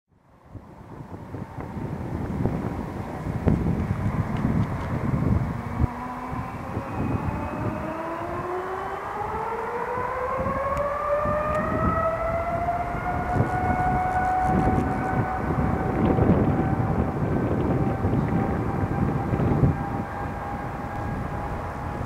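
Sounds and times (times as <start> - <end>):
wind rumble on microphone: 0.1 - 22.0
jet engine whine spooling up: 0.2 - 22.0.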